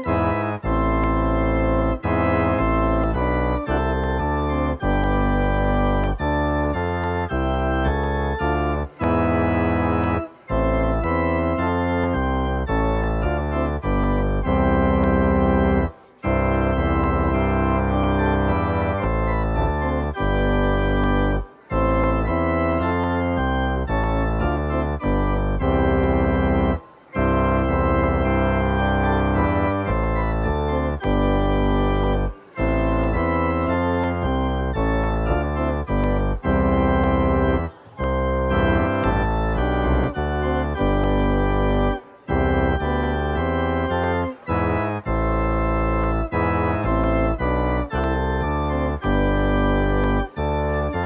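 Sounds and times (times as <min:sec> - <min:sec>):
organ playing slow chords: 0:00.0 - 0:51.0.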